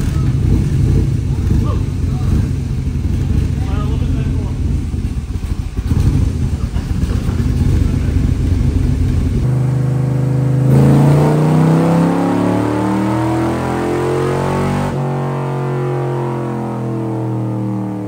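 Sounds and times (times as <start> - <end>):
car engine revving on a dyno: 0.0 - 18.0.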